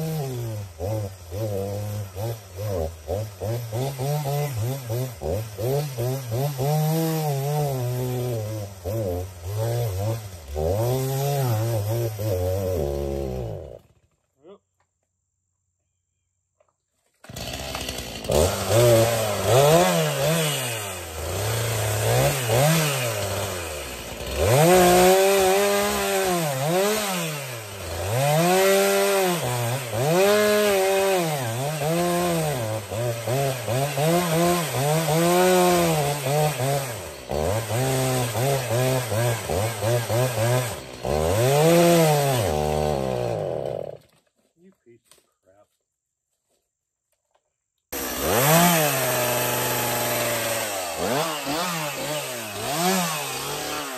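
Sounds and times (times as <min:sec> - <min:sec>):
chainsaw cutting wood: 0:00.0 - 0:14.4, 0:17.0 - 0:44.3, 0:47.9 - 0:53.9.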